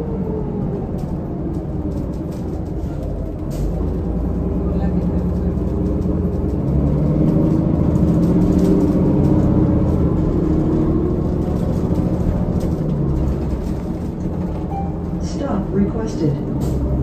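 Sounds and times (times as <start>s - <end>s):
bus diesel engine running: 0.0s - 17.0s
road rumble: 0.0s - 17.0s.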